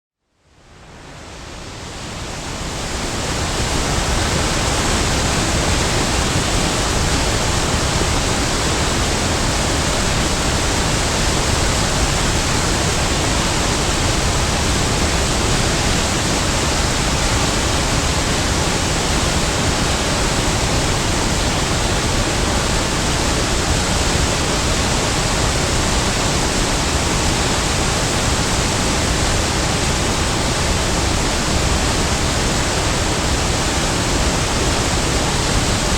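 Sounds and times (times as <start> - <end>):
waterfall rushing: 0.8 - 35.9.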